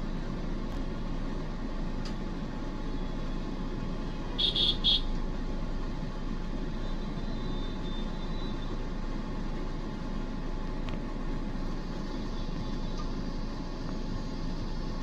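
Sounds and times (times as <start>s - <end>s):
car engine idling: 0.0s - 15.0s
street traffic: 0.0s - 15.0s.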